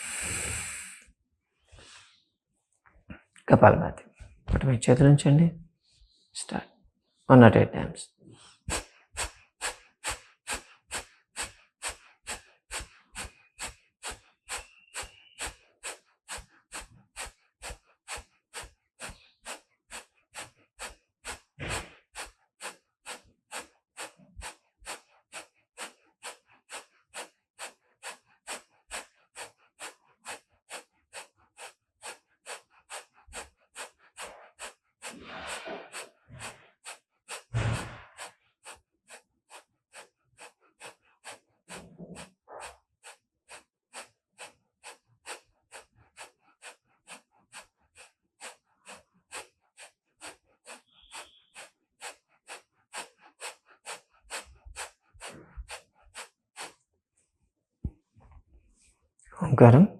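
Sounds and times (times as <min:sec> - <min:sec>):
forceful nasal exhalations: 0:00.0 - 0:02.3, 0:08.2 - 0:56.8
quiet inhale: 0:00.0 - 0:02.4, 0:05.8 - 0:06.4, 0:08.2 - 0:56.8.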